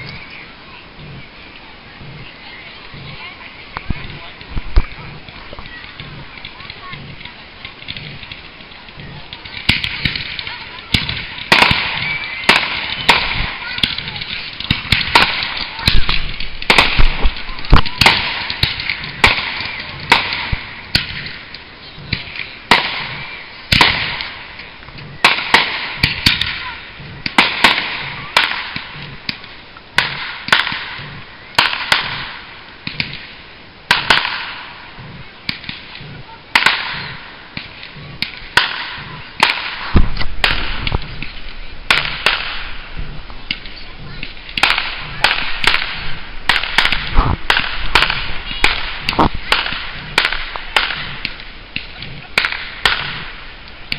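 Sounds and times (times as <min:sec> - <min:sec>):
crackling hiss: 0:00.0 - 0:53.9
fireworks bangs and cracks: 0:02.1 - 0:53.9.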